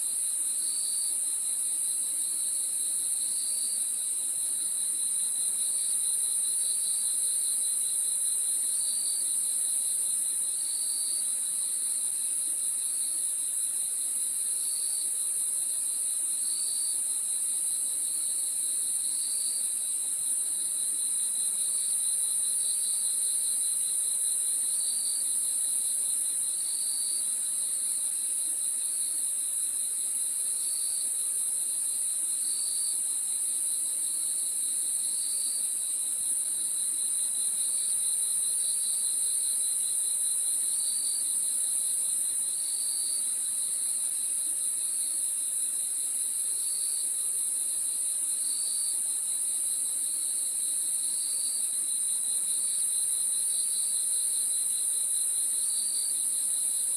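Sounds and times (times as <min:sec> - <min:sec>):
high-pitched cricket trill: 0:00.0 - 0:56.9
lower pulsing insect trill: 0:00.0 - 0:56.9.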